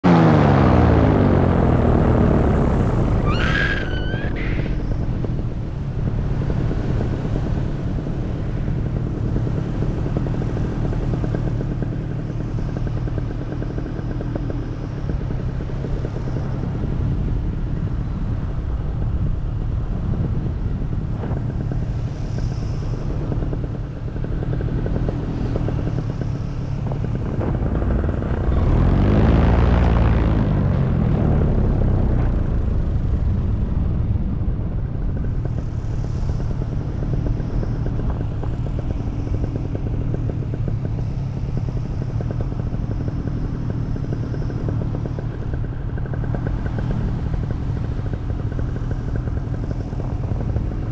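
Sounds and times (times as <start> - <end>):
paramotor engine and propeller: 0.0 - 50.9.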